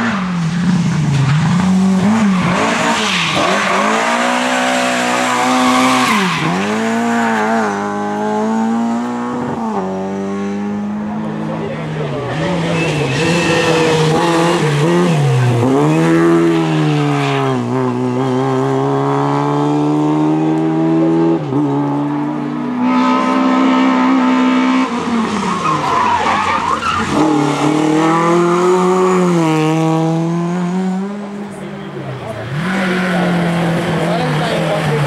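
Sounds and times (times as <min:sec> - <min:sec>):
rally car engine at high revs: 0:00.0 - 0:35.0.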